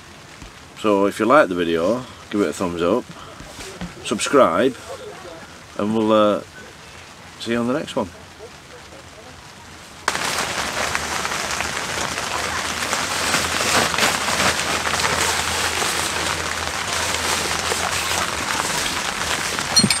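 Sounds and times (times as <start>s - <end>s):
rain pattering on tent fabric: 0.0s - 20.0s.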